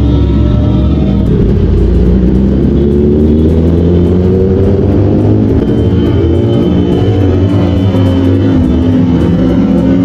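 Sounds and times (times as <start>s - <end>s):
motorcycle engine slowing: 0.0s - 10.0s.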